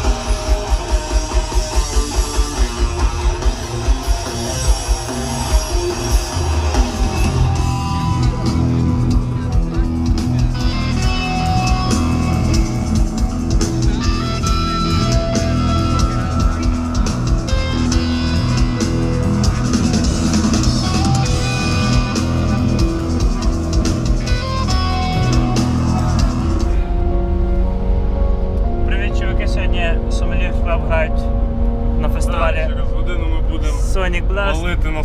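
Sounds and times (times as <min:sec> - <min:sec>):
rock music with electric guitar: 0:00.0 - 0:32.1.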